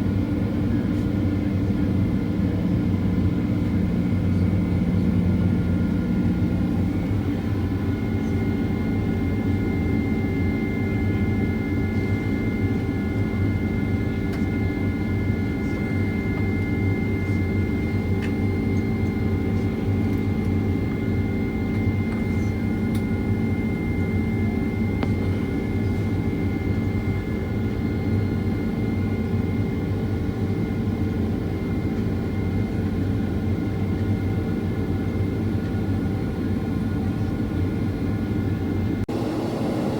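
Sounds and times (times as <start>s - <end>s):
high engine whines: 0.0s - 39.9s
jet engine rumble: 0.0s - 39.9s.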